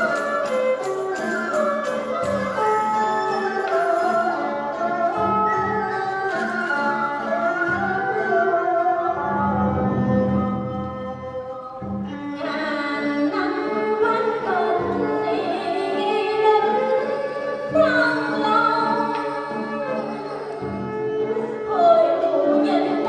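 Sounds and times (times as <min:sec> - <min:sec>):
traditional music with singing: 0:00.0 - 0:23.0.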